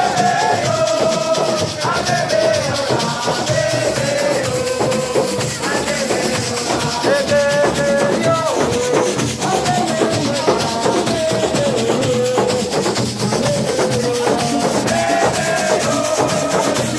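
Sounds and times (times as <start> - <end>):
shaker and drum percussion: 0.0 - 16.9.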